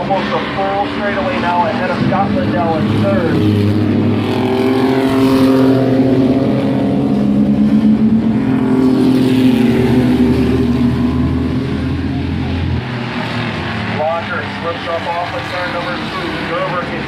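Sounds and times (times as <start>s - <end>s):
race truck engines running: 0.0s - 17.0s.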